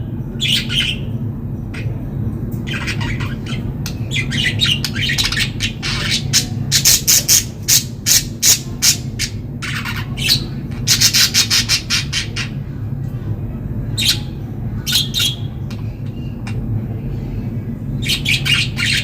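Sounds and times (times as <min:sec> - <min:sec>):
steady low hum: 0:00.0 - 0:19.0
budgerigars chirping and squawking: 0:00.4 - 0:02.0, 0:02.7 - 0:12.6, 0:13.9 - 0:16.6, 0:18.0 - 0:19.0.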